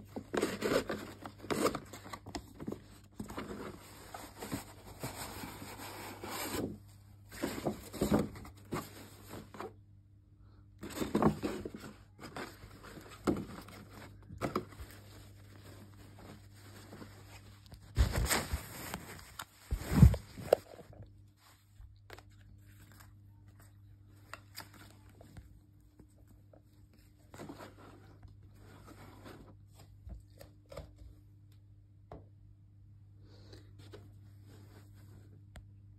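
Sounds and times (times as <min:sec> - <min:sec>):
paper and cloth rustling: 0:00.0 - 0:09.7, 0:10.8 - 0:30.0.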